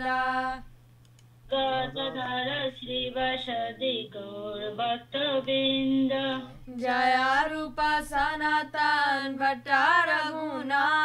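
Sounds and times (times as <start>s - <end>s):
group singing in unison: 1.6s - 11.0s.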